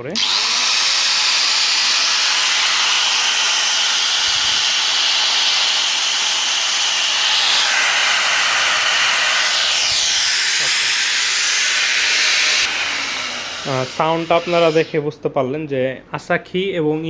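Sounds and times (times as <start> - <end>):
angle grinder whining: 0.0 - 15.1.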